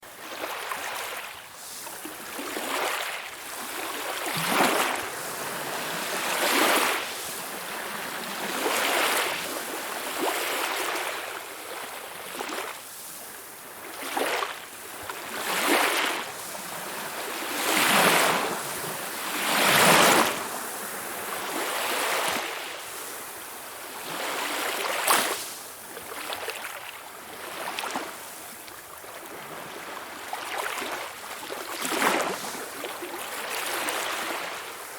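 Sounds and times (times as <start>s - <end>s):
small waves lapping on shore: 0.1s - 34.9s.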